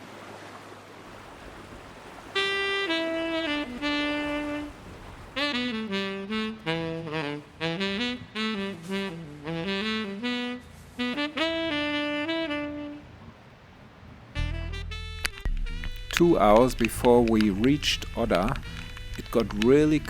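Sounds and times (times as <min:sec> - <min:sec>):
solo saxophone melody: 0:01.2 - 0:13.4, 0:14.3 - 0:20.0.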